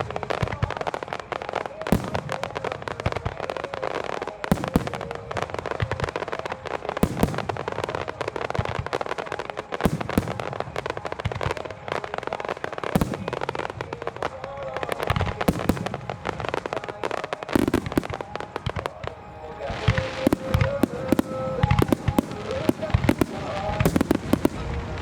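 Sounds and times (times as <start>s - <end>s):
fireworks booming: 0.0s - 25.0s
fireworks crackling and popping: 0.0s - 25.0s.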